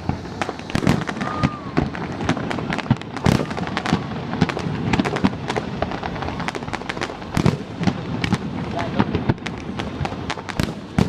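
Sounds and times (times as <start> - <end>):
fireworks crackling bangs: 0.0 - 11.0
heavy firework booms: 0.0 - 11.0.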